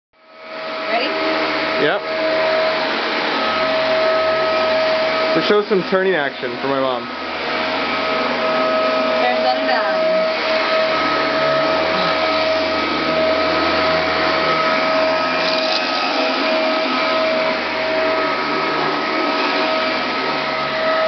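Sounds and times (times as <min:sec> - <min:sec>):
vacuum cleaner running: 0:00.2 - 0:21.0.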